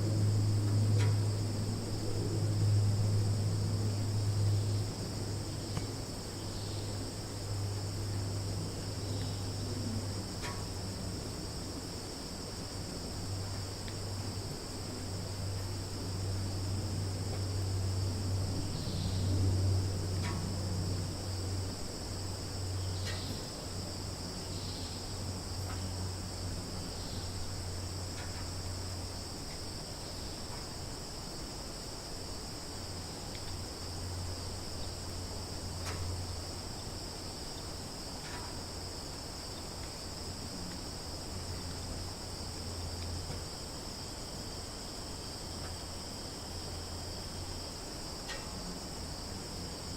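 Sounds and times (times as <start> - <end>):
crickets and insects chirping: 0.0 - 49.9
low steady rumble: 0.0 - 49.9.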